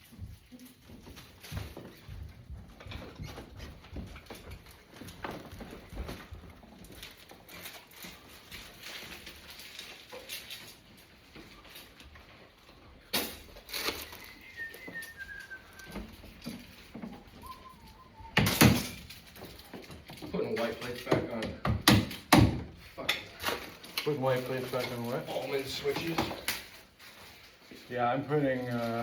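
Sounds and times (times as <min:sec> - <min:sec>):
handling clatter and knocks: 0:00.0 - 0:29.0.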